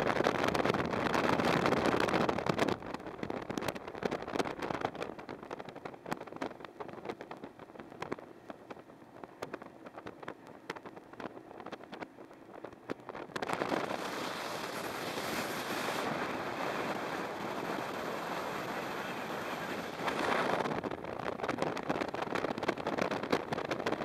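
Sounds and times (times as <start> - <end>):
rush of wind and water: 0.0 - 24.0.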